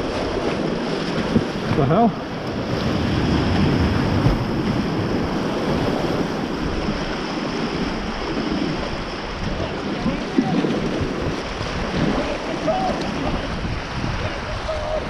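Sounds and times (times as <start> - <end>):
rushing white water: 0.0 - 15.0
wind buffeting microphone: 0.0 - 15.0.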